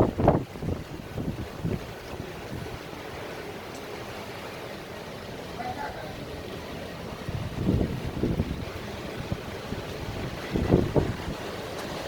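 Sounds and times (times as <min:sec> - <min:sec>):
storm wind buffeting microphone: 0:00.0 - 0:03.4, 0:05.4 - 0:12.0.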